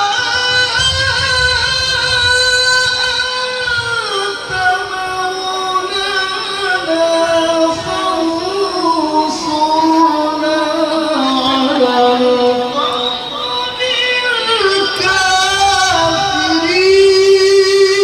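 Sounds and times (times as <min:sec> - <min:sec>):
man chanting recitation: 0:00.0 - 0:18.0.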